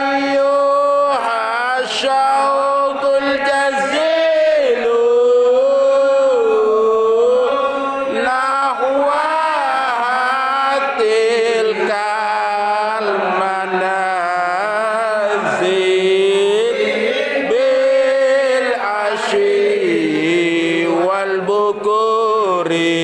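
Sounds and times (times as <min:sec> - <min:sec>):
men chanting a devotional hymn: 0:00.0 - 0:23.0.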